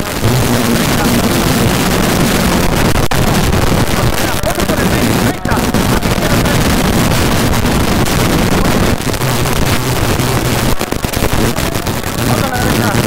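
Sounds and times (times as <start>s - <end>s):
wind on microphone: 0.0s - 12.5s.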